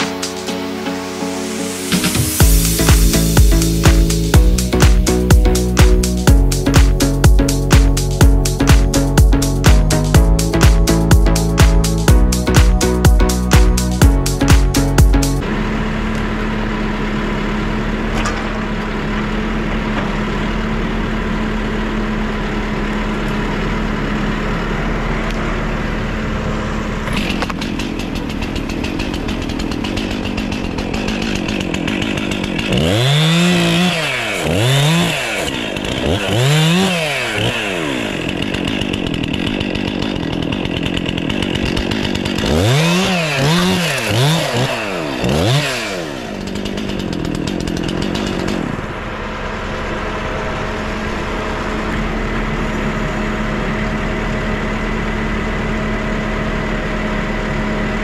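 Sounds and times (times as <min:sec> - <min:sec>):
steady engine drone: 0:00.0 - 0:58.0
chainsaw revving: 0:01.5 - 0:58.0.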